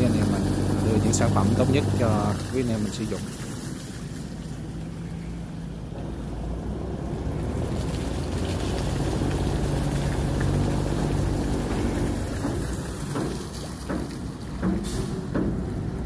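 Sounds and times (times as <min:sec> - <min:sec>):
barge engine drone: 0:00.0 - 0:03.2, 0:04.6 - 0:16.0
water splashing from hull: 0:00.0 - 0:16.0.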